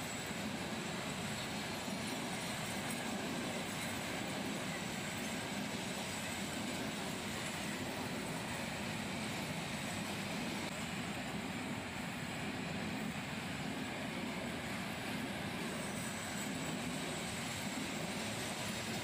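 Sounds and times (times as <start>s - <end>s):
freight train wheels on rail: 0.0s - 19.0s.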